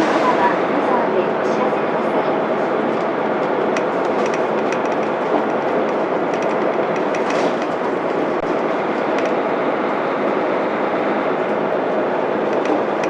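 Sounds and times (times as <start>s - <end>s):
bus diesel engine running: 0.0s - 13.0s
road and tyre noise: 0.0s - 13.0s.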